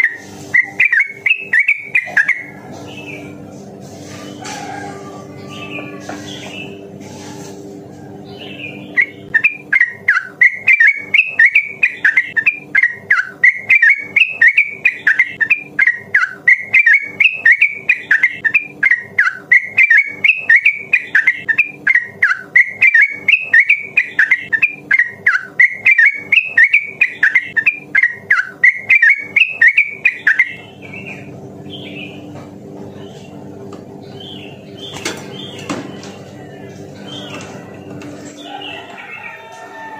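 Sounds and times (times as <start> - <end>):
bird singing warbled notes: 0.0 - 3.4, 8.2 - 32.3, 34.0 - 38.9.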